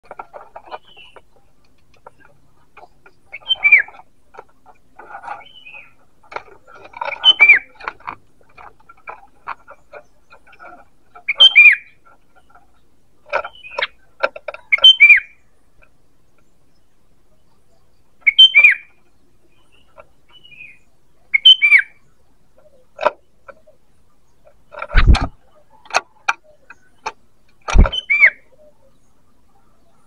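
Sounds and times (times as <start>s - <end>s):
bulbul calling: 0.0s - 30.0s.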